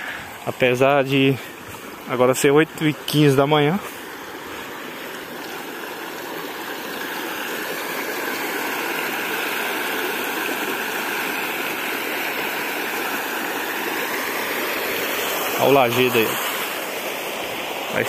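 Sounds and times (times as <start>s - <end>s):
water rushing over rock: 0.0s - 18.0s.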